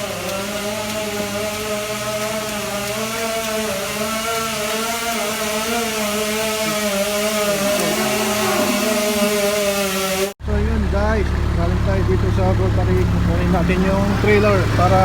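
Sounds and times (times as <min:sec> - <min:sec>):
milking machinery humming: 0:00.0 - 0:15.0.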